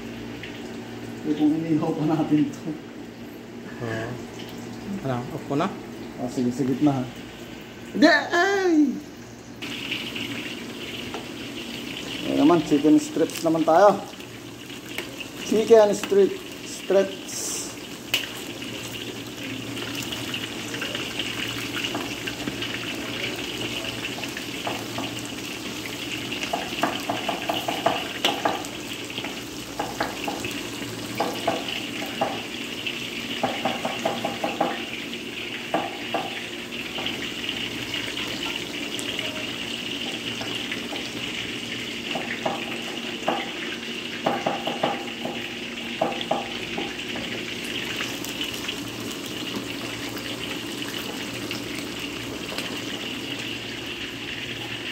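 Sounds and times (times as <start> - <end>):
chicken deep-frying in oil: 0.0 - 54.9.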